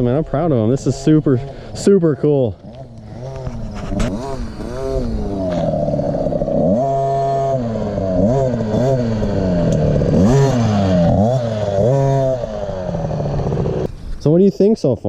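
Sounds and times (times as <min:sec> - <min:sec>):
two-stroke engine revving: 0:00.0 - 0:13.9.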